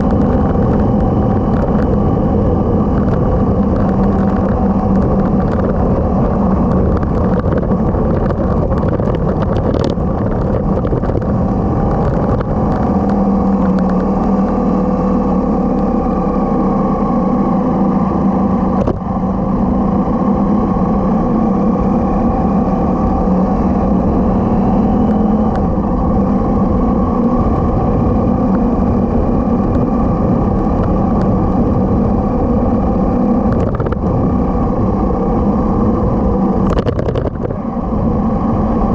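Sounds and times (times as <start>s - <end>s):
motorcycle engine cruising: 0.0s - 38.9s
wind and road rumble: 0.0s - 38.9s.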